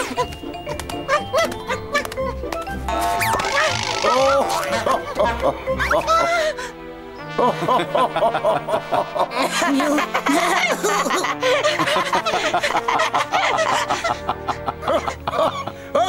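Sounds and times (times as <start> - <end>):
cartoon characters chuckling: 0.0 - 6.5, 7.4 - 14.2
background music: 0.0 - 16.0.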